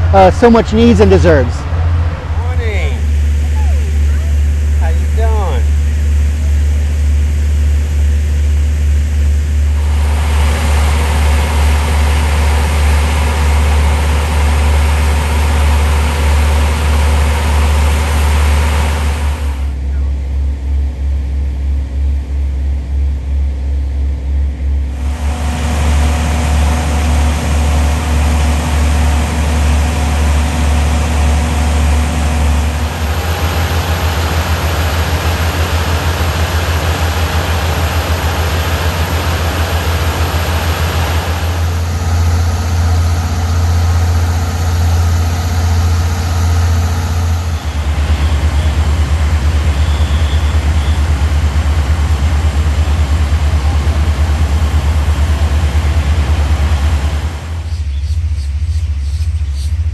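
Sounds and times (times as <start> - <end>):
rushing noise: 0.0 - 6.0, 9.7 - 19.8, 24.9 - 57.7
diesel engines rumbling: 0.0 - 20.3, 24.8 - 58.4.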